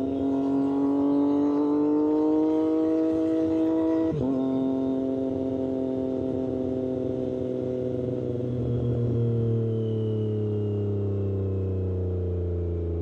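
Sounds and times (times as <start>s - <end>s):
motorcycle engine revving down: 0.0s - 13.0s.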